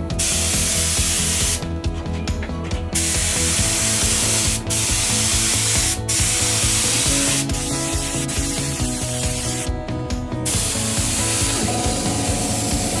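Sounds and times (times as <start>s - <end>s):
spray gun hissing: 0.2s - 1.6s, 3.0s - 9.7s, 10.5s - 13.0s.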